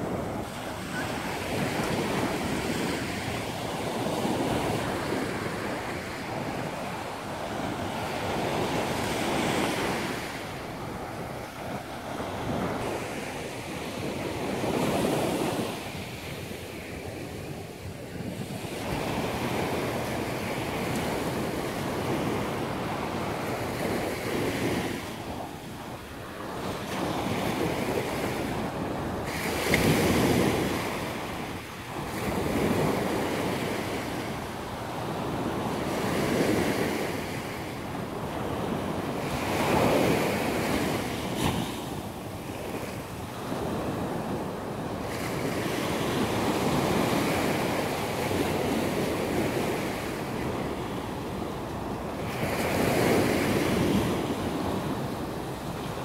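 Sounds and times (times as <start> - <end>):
surf washing on sandy beach: 0.0 - 56.0
wind on microphone: 0.0 - 56.0.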